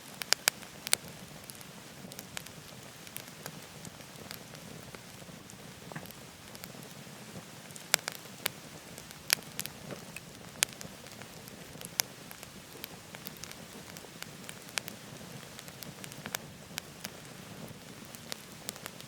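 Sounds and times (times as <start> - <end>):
firewood crackling: 0.0 - 19.0
rushing hiss of fire: 0.0 - 19.0
sharp pops of burning wood: 0.1 - 19.0.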